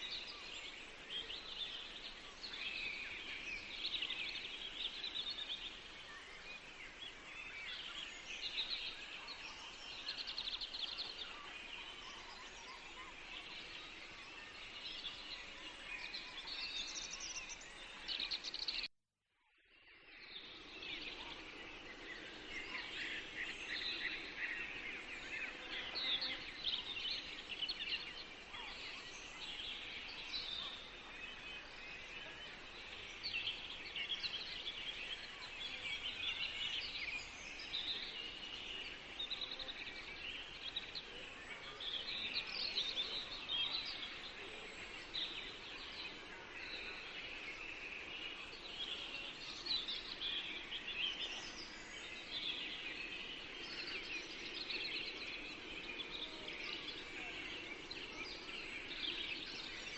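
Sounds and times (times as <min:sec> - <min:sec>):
steady forest hiss: 0:00.0 - 0:18.8, 0:19.7 - 0:59.9
songbirds chirping and singing: 0:00.0 - 0:18.9, 0:19.6 - 0:59.9.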